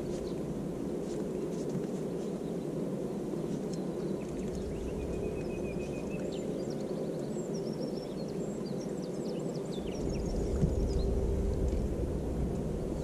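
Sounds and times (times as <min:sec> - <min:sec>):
small birds singing: 0:00.0 - 0:13.0
steady low rush: 0:00.0 - 0:13.0.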